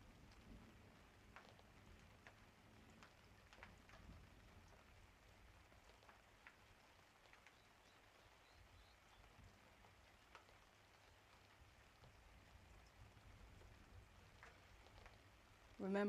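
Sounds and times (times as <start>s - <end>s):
faint rain: 0.0s - 16.0s.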